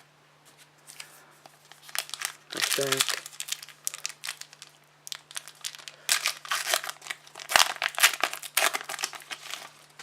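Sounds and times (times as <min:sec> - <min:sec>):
wrapper tearing and crinkling: 0:01.7 - 0:10.0.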